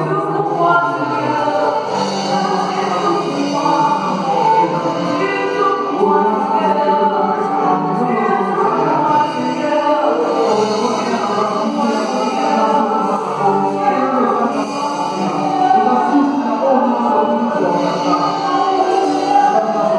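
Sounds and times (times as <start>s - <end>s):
electric guitar: 0.0s - 19.9s
group singing gospel song: 0.0s - 19.9s
keyboard: 0.0s - 19.9s.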